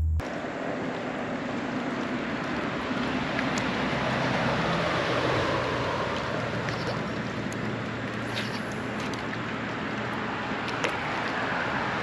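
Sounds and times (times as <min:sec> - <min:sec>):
wind: 0:00.2 - 0:12.0.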